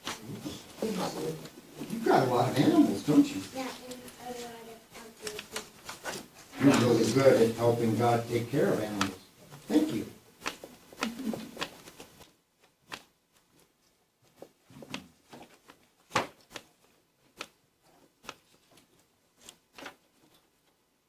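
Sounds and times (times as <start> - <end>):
paper rustling: 0.0 - 20.8.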